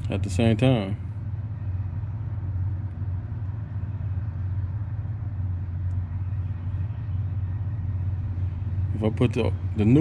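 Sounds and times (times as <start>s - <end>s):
low mechanical hum of machinery: 0.0s - 10.0s.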